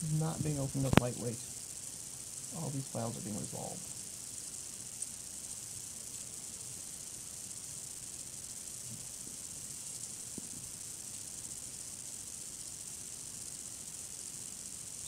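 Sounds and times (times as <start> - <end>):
recording hiss: 0.0 - 15.0.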